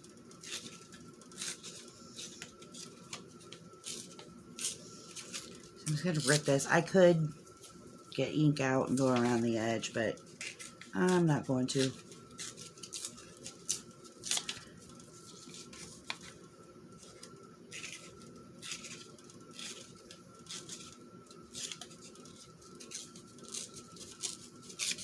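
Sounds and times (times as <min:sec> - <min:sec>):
paper tearing: 0:00.4 - 0:07.2, 0:08.8 - 0:25.0.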